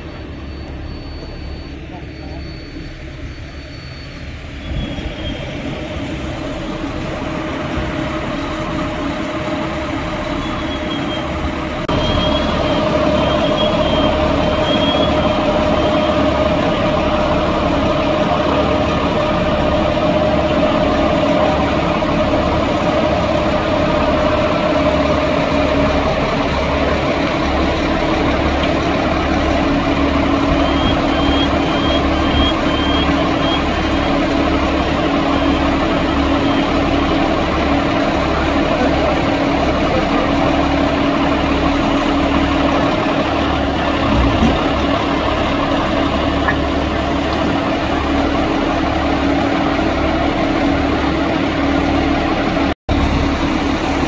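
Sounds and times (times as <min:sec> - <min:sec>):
fire truck diesel engine running: 0:00.0 - 0:54.0.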